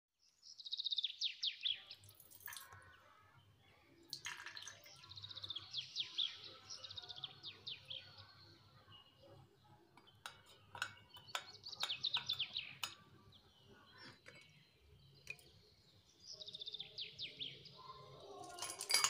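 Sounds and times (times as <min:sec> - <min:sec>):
songbird singing: 0:00.2 - 0:19.0.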